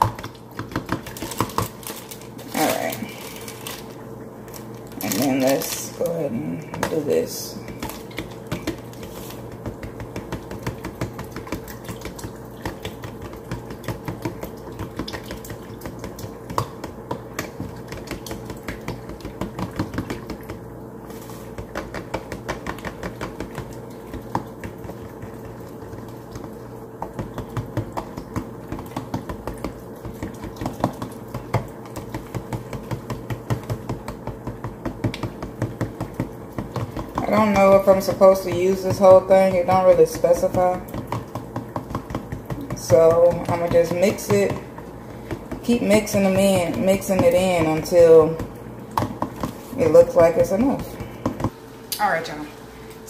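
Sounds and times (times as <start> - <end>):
faint steady hum: 0.0 - 53.0
fork whisking in plastic bowl: 5.0 - 51.6.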